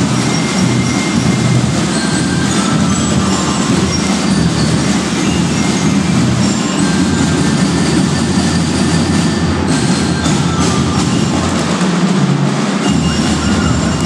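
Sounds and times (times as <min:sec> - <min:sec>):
bell-lyres playing: 0:00.0 - 0:14.0
massed drums: 0:00.0 - 0:14.0.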